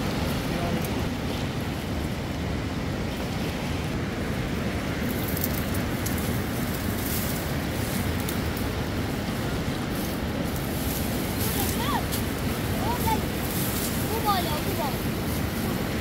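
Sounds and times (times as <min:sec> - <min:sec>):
leafy branches rustling: 0:00.0 - 0:16.0
river rushing: 0:00.0 - 0:16.0
wind on microphone: 0:00.0 - 0:16.0.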